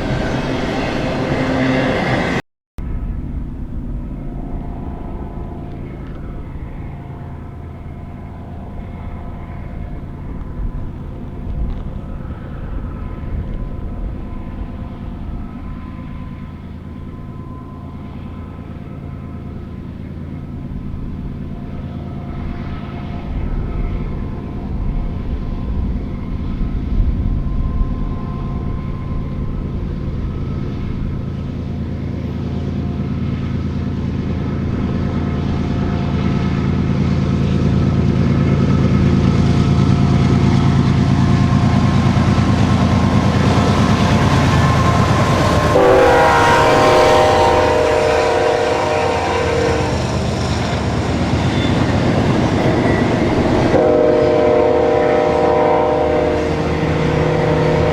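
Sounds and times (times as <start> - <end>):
higher steady tones: 0.0 - 57.9
locomotive engine drone: 0.0 - 57.9.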